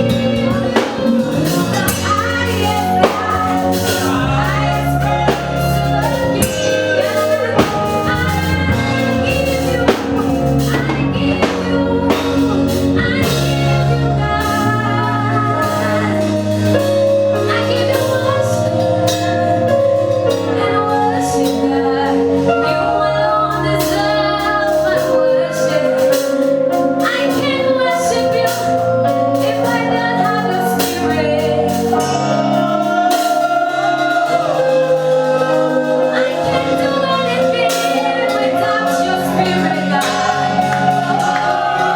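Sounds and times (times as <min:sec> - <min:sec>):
band with drums and keyboard: 0:00.0 - 0:41.9
woman singing: 0:00.0 - 0:41.9.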